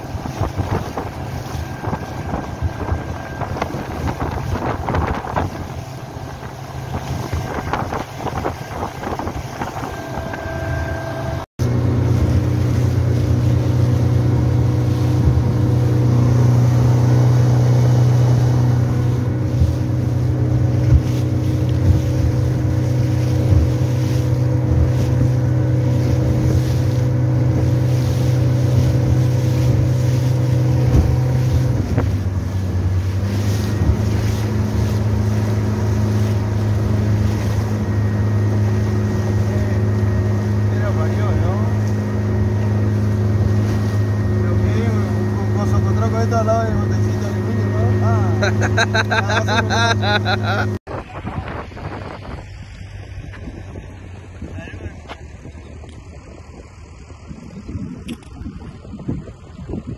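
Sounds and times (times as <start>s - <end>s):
wind on microphone: 0.0s - 45.9s, 50.9s - 59.9s
motorboat engine running: 0.0s - 59.9s
water rushing off hull: 0.0s - 59.9s.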